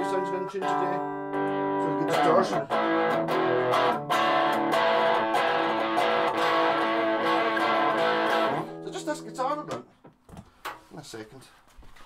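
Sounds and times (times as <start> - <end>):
distorted electric guitar chords: 0.0 - 9.8.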